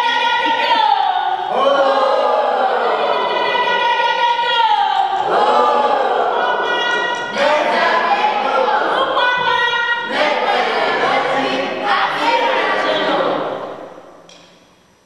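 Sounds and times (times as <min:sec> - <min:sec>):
group singing in chorus: 0:00.0 - 0:14.3.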